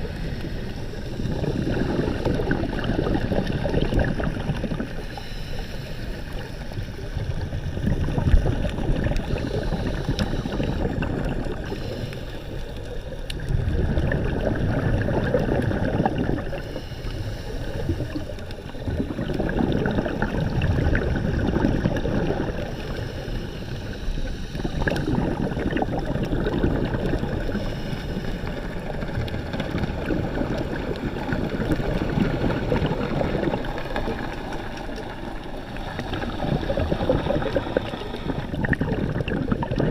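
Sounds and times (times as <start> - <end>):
muffled sea water gurgling: 0.0 - 39.9.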